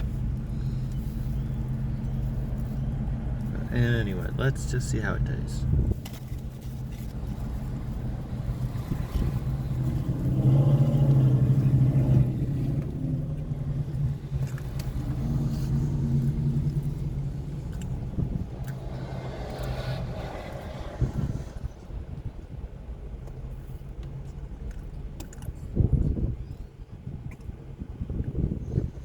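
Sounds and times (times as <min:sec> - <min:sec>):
car engine humming: 0:00.0 - 0:26.4.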